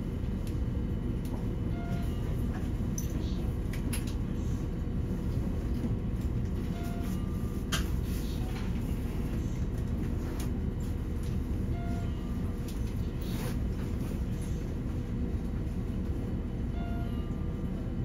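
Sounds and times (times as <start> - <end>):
train interior rumble: 0.0 - 18.0.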